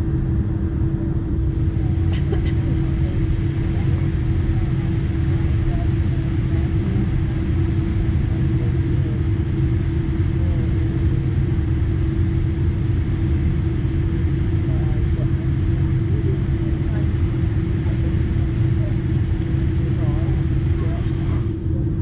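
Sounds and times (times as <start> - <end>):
aircraft cabin low rumble: 0.0 - 22.0
constant hum: 0.0 - 22.0.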